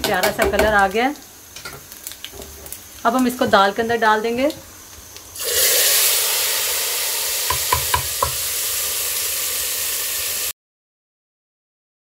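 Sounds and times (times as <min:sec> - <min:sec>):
hot oil sizzling: 0:00.1 - 0:10.6.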